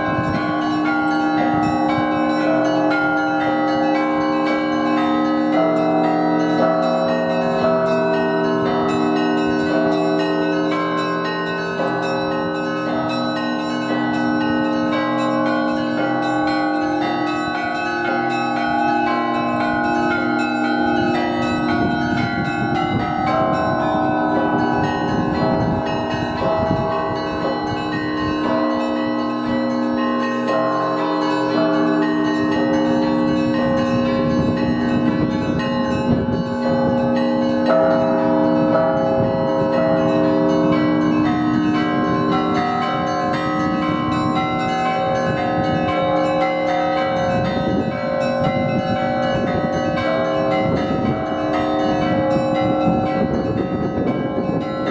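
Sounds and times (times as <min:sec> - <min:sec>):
church bells pealing: 0:00.0 - 0:54.9
deep large bell strokes: 0:05.6 - 0:54.9.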